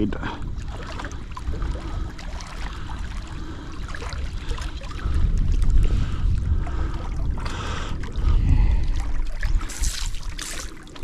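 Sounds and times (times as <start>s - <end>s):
wind buffeting microphone: 0.0s - 10.7s
waves lapping against rocks: 0.0s - 11.0s.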